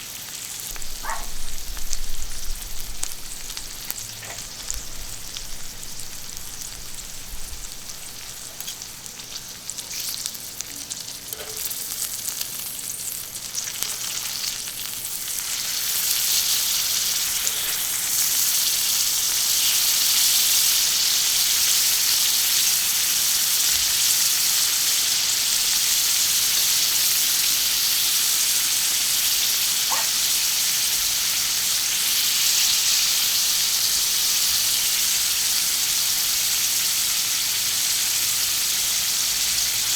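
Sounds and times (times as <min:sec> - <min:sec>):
food sizzling on a griddle: 0:00.0 - 0:39.9.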